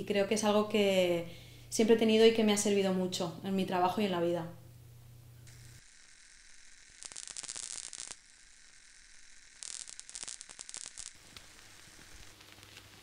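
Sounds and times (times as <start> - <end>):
crackling static hiss: 0.0 - 13.0.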